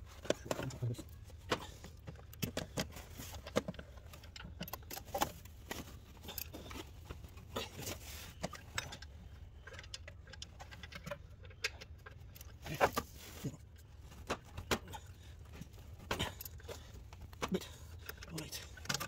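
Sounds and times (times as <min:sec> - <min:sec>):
tools clicking against engine: 0:00.3 - 0:19.0.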